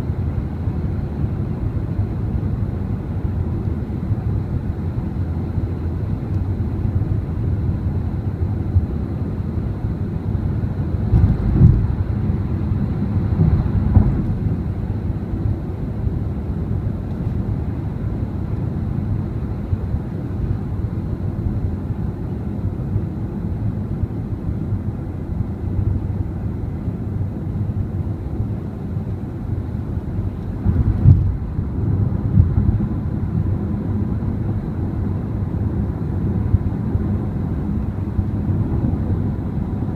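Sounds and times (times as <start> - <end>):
car driving road and tyre noise: 0.0 - 39.9.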